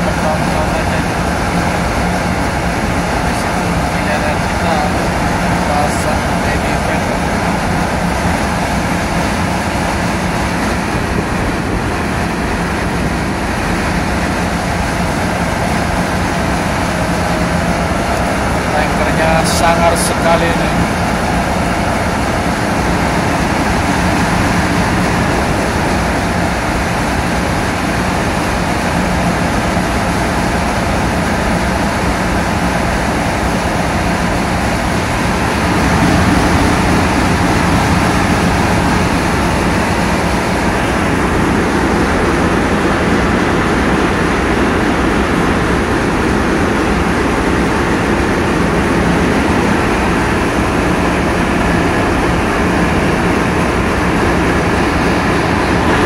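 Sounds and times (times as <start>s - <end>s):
boat engine running: 0.0s - 56.0s
water noise: 0.0s - 56.0s
wind: 0.0s - 56.0s.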